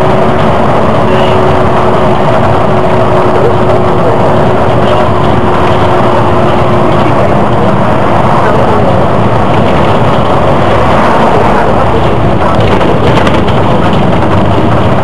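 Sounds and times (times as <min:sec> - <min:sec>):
bus diesel engine running: 0:00.0 - 0:15.0
road and wind noise: 0:00.0 - 0:15.0
steady whine: 0:00.0 - 0:15.0.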